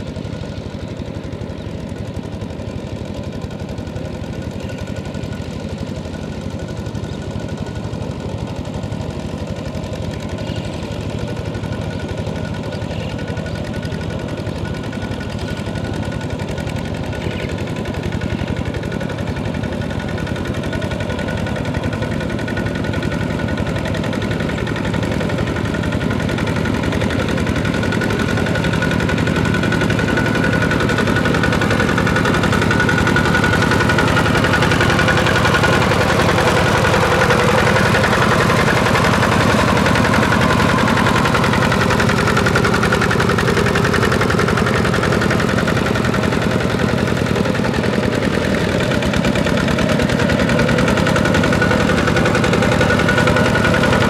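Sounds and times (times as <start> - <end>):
walking tractor diesel engine: 0.0 - 54.0.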